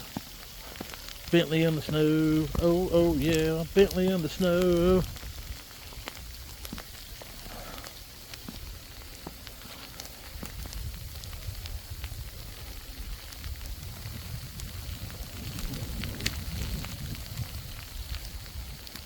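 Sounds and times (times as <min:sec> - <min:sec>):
faint hiss: 0:00.0 - 0:19.0
snow ticking on surfaces: 0:00.0 - 0:19.0.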